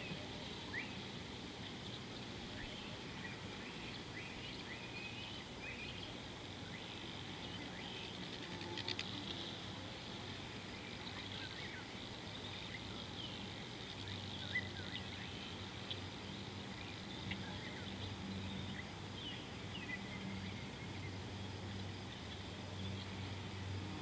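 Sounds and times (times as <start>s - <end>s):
faint low hum: 0.0s - 24.0s
high insect hum: 0.0s - 24.0s.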